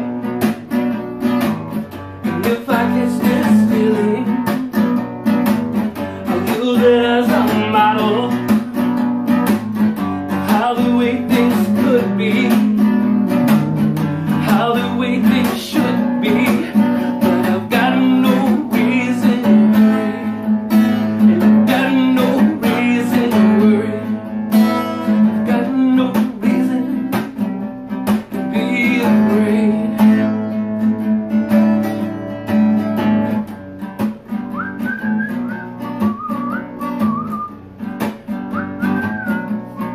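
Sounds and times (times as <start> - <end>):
acoustic guitar strumming chords: 0.0 - 39.9.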